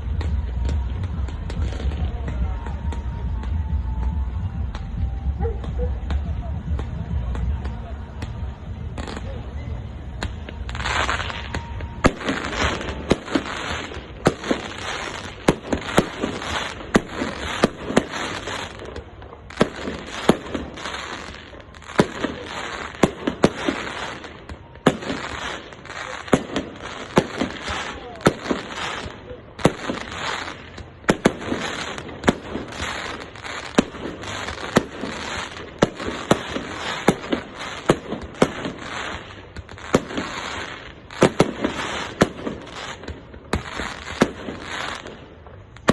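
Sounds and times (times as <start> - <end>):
fireworks bangs: 0.0 - 45.9
fireworks crackling: 0.0 - 45.9.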